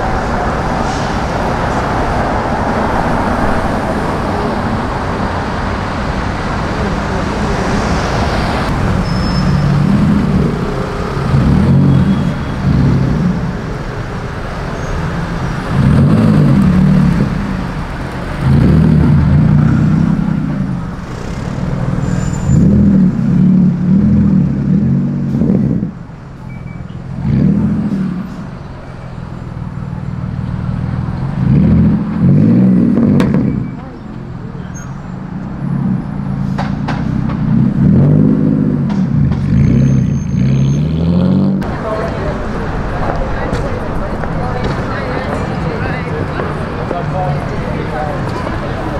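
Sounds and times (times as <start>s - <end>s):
car engines passing: 0.0s - 48.9s.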